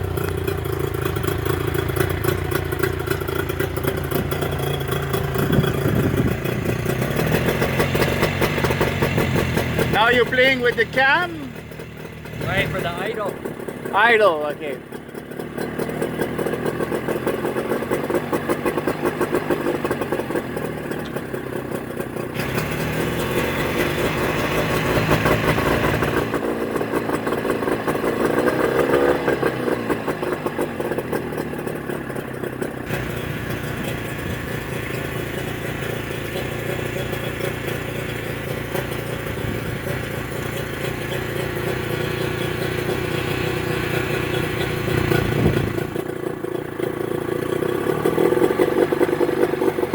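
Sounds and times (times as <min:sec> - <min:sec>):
outboard motor running: 0:00.0 - 0:49.9.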